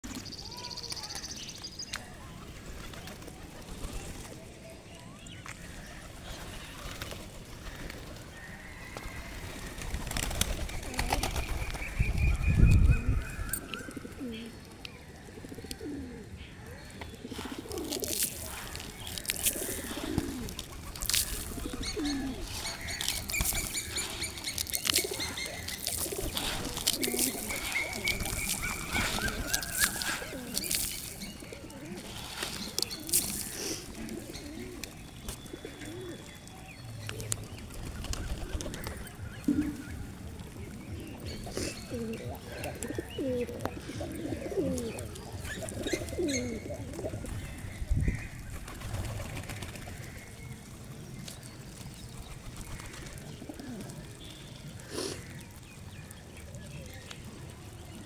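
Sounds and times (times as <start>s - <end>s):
small birds chirping: 0.0s - 58.0s
pigeons cooing: 8.9s - 36.5s, 37.1s - 58.0s.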